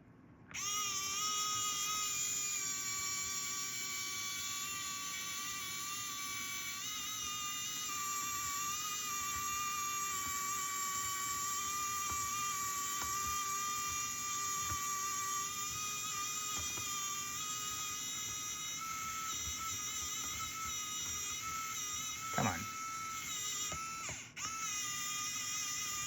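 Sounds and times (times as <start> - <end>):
electric screwdriver motor whine: 0.5 - 26.0.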